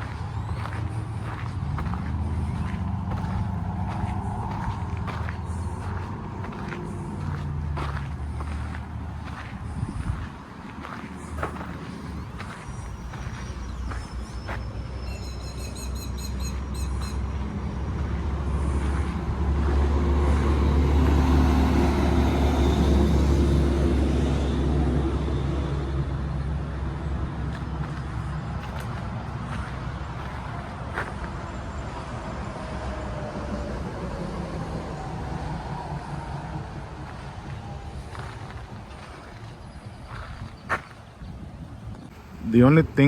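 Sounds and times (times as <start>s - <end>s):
vehicle engine passing: 0.0s - 40.8s.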